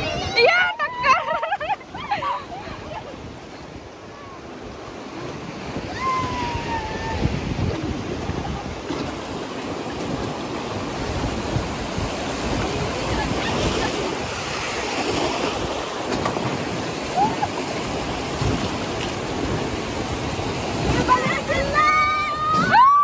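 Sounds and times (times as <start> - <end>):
wind noise on microphone: 0.0 - 3.9, 4.5 - 23.0
river water rushing: 0.0 - 23.0.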